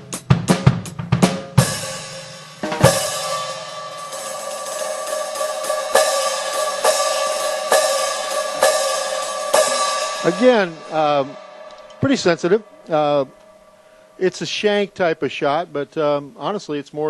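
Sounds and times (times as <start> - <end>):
electronic drum hits: 0.0 - 15.1
ringing cymbal strikes: 1.6 - 16.4.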